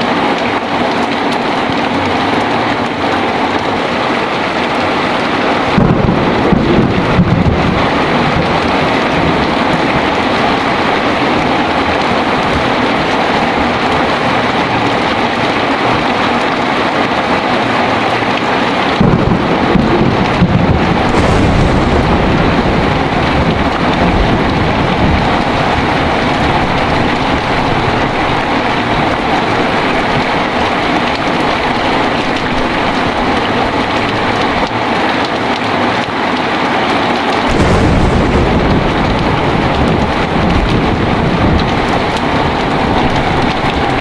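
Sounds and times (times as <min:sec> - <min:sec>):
heavy rain falling: 0:00.0 - 0:44.0
thunder rumbling: 0:03.3 - 0:35.2, 0:37.5 - 0:44.0.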